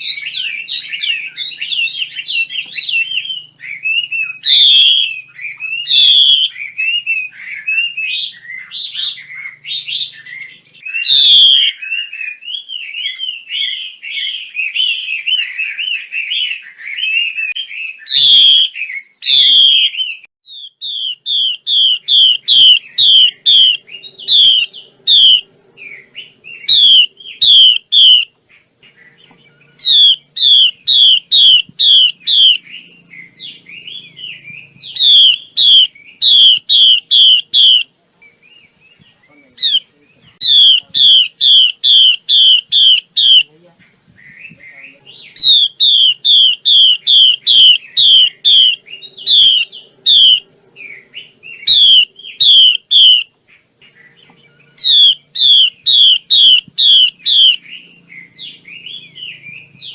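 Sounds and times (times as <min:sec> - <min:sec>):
songbird warbling and whistling: 0:00.0 - 0:59.9.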